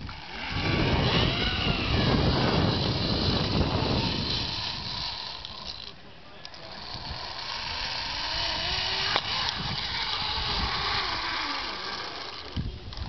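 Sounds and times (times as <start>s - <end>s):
zip wire pulleys whirring: 0.0s - 13.0s.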